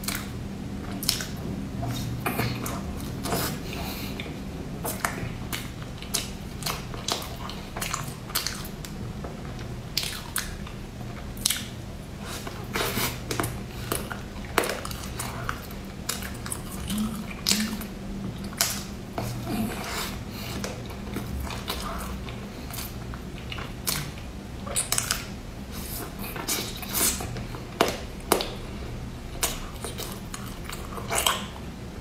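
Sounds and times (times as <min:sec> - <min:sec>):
chewing with mouth smacks: 0:00.0 - 0:31.7.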